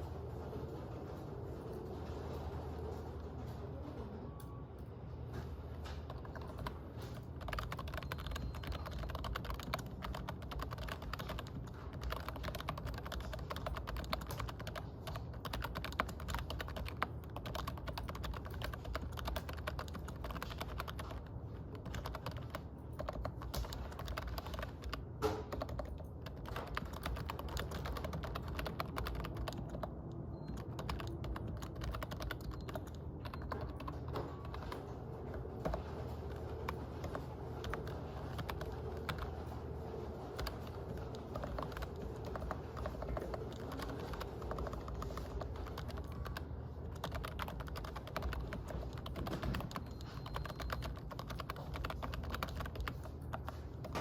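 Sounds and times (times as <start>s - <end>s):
steady low hum: 0.0s - 54.0s
computer keyboard typing: 5.4s - 54.0s.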